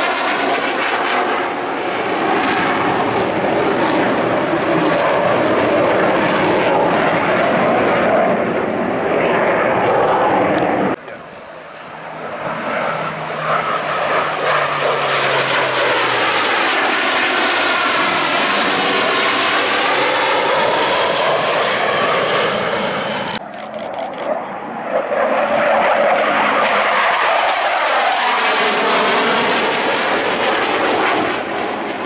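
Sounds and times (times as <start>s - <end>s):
fighter jet roar: 0.0s - 32.0s.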